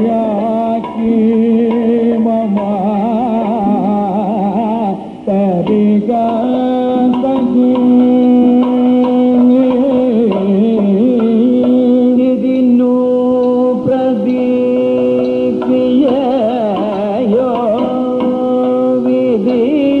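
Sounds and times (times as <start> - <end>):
drum accompaniment: 0.0 - 20.0
man singing ornamented notes: 0.0 - 20.0.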